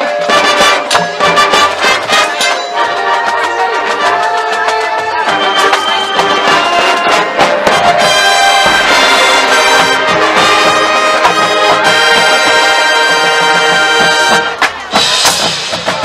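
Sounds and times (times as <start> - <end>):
marching band brass chords: 0.0 - 16.0.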